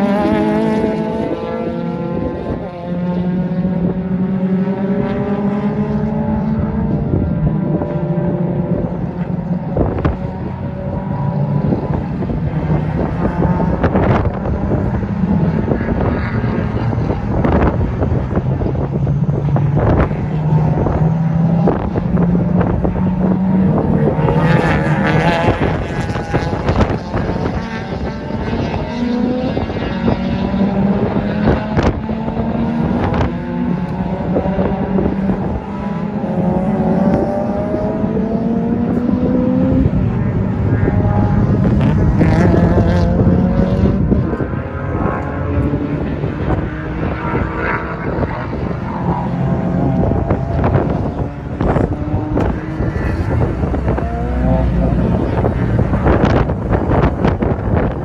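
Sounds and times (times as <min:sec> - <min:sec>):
race car engines revving: 0:00.0 - 0:58.0
wind noise on microphone: 0:00.0 - 0:58.0.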